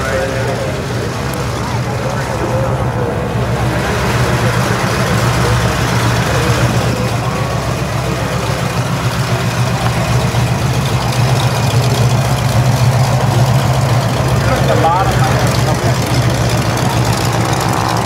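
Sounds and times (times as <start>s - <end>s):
aircraft radial engines droning: 0.0s - 18.0s.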